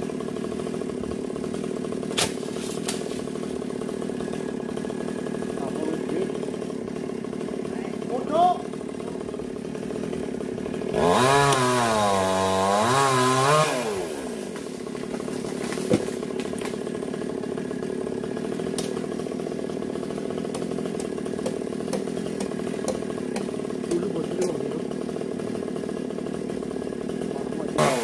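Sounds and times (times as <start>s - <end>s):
chainsaw cutting wood: 0.0s - 28.0s
chainsaw idling: 0.0s - 28.0s.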